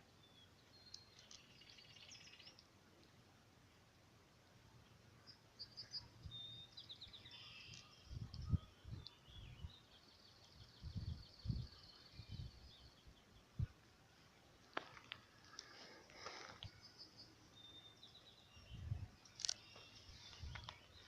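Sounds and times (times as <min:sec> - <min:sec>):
songbirds calling and trilling: 0:00.0 - 0:02.7, 0:04.8 - 0:21.0.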